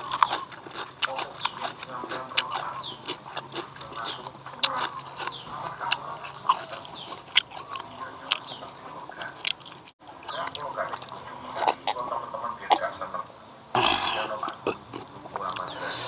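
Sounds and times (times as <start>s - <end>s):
wet chewing and lip-smacking: 0.0s - 12.1s, 14.4s - 15.8s
small birds chirping: 0.0s - 16.0s.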